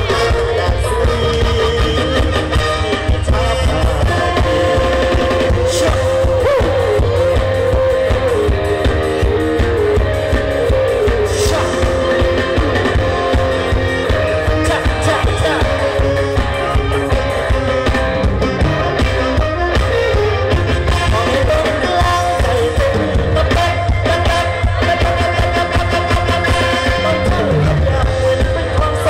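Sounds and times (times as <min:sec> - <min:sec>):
live band music through pa: 0:00.0 - 0:29.0
person singing into microphone: 0:00.0 - 0:29.0.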